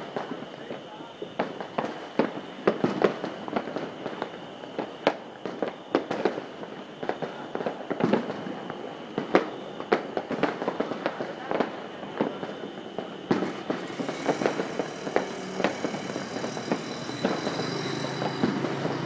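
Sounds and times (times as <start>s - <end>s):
fireworks and firecrackers popping: 0.0s - 19.0s.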